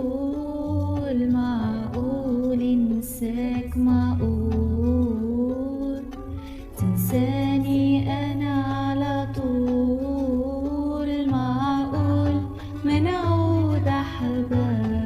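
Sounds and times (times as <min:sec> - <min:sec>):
backing track with bass line: 0:00.0 - 0:15.0
person singing: 0:00.0 - 0:15.0.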